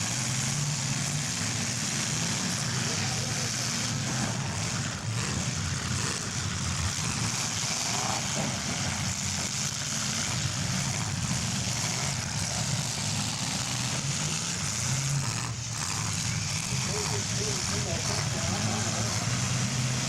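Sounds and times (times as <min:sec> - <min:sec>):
car engines running loudly: 0:00.0 - 0:20.0.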